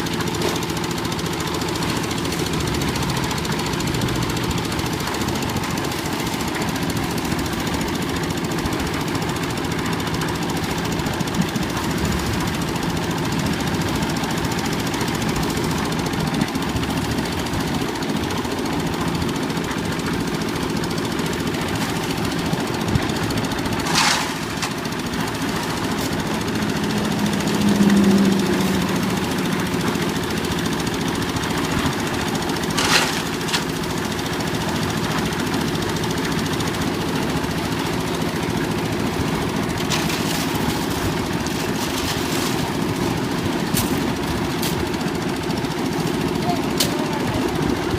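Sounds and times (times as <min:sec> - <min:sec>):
diesel engine knocking: 0:00.0 - 0:47.9.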